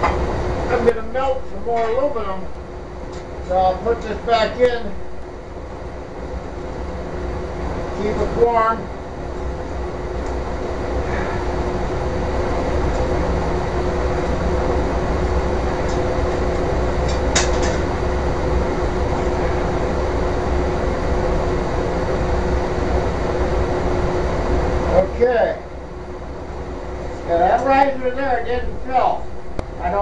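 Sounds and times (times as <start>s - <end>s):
constant hum: 0.0s - 30.0s
furnace burner rushing: 0.0s - 30.0s.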